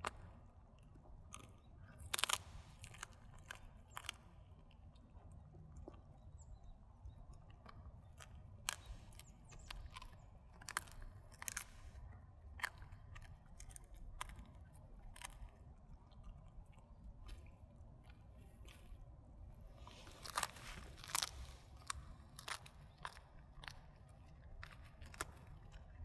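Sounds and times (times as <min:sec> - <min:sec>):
dog gnawing: 0:00.0 - 0:06.0, 0:07.4 - 0:19.0, 0:19.8 - 0:26.0
dog crunching bones: 0:00.0 - 0:06.2, 0:07.2 - 0:19.2, 0:19.8 - 0:26.0.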